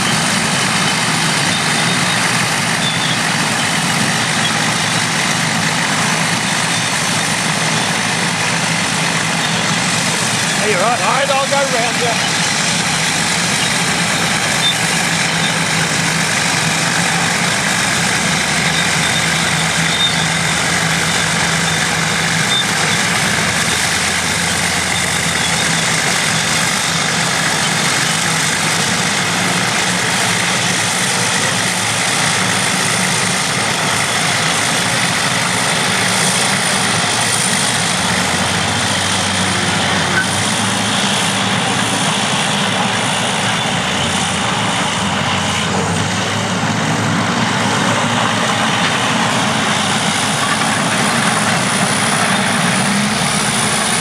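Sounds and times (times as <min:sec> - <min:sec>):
bulldozer engines running: 0:00.0 - 0:54.0.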